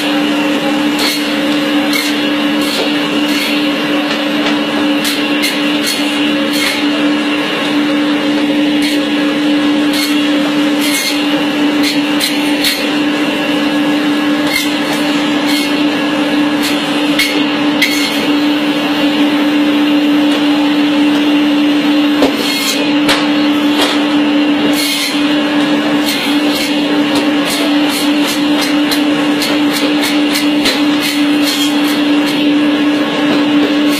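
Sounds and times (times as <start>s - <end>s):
band saw motor hum: 0.0s - 33.9s.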